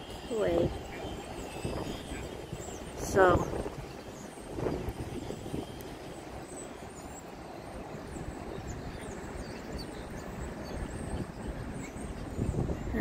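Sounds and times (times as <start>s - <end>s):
low rumble of highway traffic: 0.0s - 13.0s.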